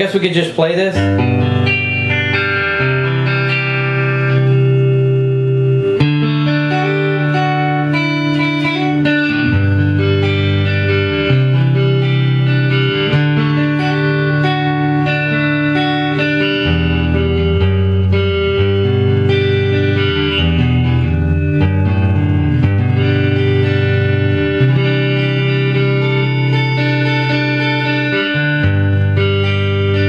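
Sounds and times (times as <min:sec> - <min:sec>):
clean electric guitar chords: 0:00.0 - 0:30.0.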